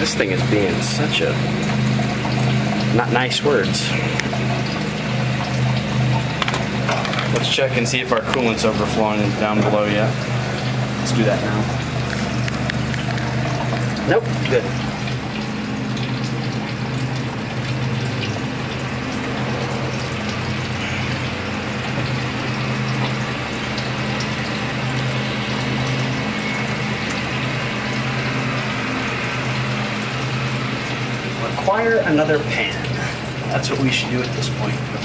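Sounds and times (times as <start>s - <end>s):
coolant pouring into drain pan: 0.0s - 35.0s.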